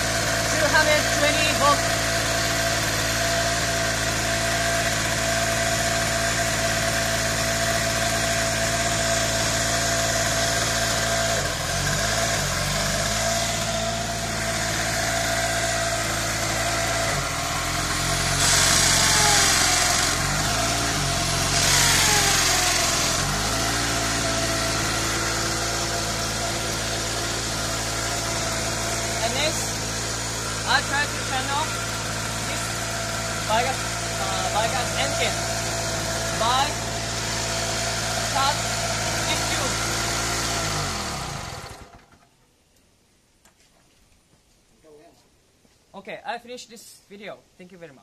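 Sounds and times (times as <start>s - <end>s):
electric drill running: 0.0s - 42.1s
generator engine running: 0.0s - 42.3s.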